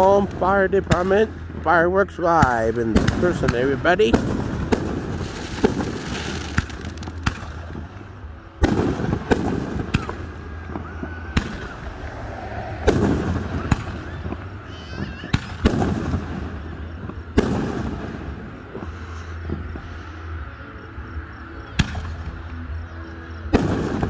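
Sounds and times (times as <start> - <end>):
fireworks bursts booming: 0.0 - 20.0, 23.5 - 24.0.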